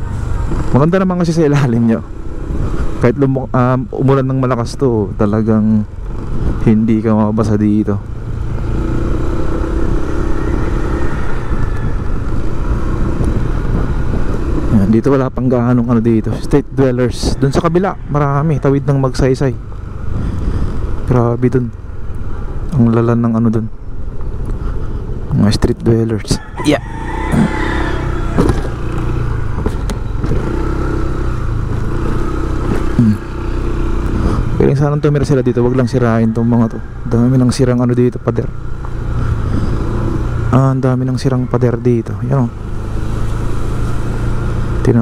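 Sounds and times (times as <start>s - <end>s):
motorcycle engine running: 0.0s - 26.2s, 27.1s - 45.0s
road traffic rumble: 0.0s - 45.0s.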